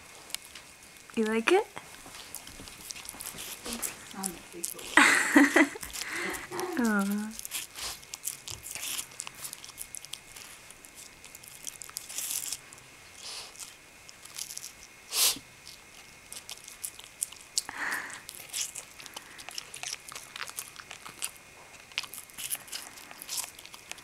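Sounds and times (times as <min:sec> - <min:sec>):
dog chewing watermelon rind: 0:01.9 - 0:24.0.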